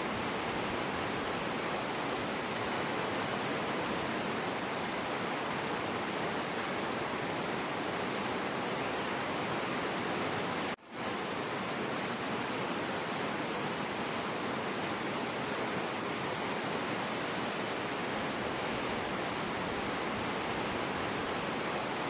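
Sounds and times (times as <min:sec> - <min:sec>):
river rapids rushing over rocks: 0:00.0 - 0:22.0.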